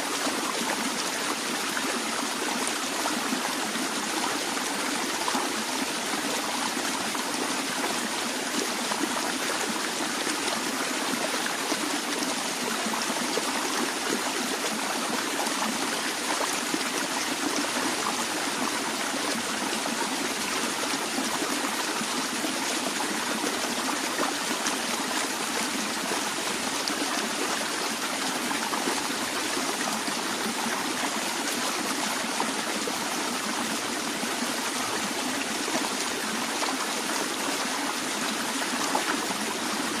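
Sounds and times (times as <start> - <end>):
stream water flowing: 0.0 - 40.0.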